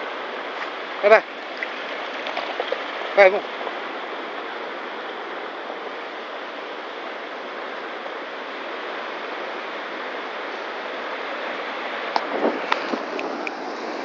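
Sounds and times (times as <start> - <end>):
waves breaking: 0.0 - 14.0.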